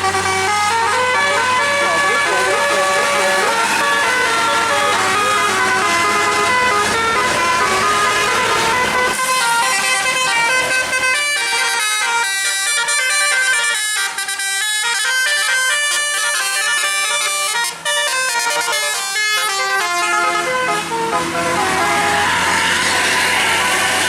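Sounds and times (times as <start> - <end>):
musical airhorn tune: 0.0 - 24.0.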